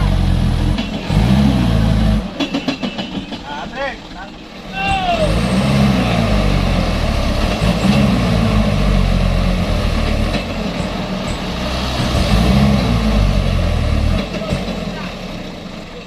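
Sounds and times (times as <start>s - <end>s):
truck diesel engine revving: 0.0s - 2.4s, 4.5s - 16.0s.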